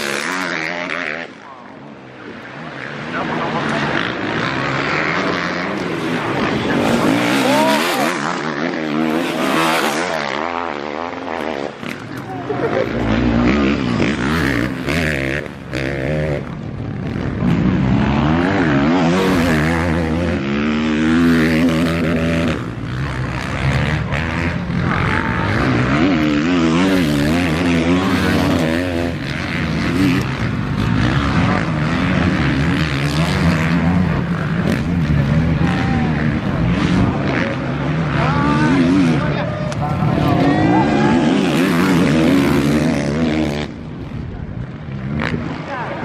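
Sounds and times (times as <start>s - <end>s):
motocross bike engines revving: 0.0s - 46.0s.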